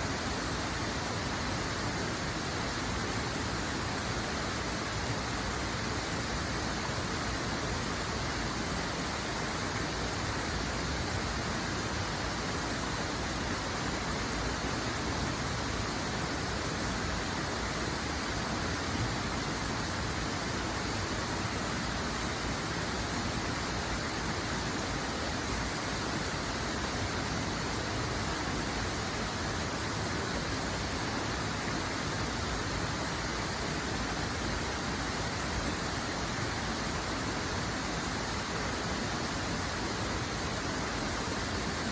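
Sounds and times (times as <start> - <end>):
water rushing: 0.0 - 41.9.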